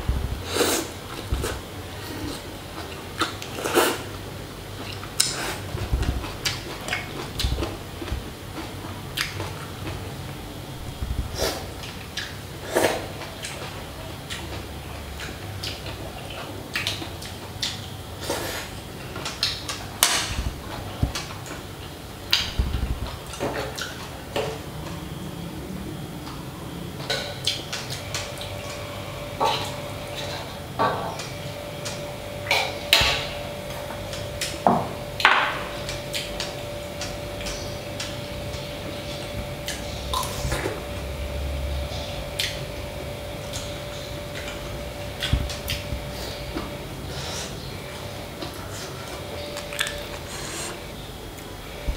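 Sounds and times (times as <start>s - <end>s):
steady fan hum: 0.0s - 51.9s.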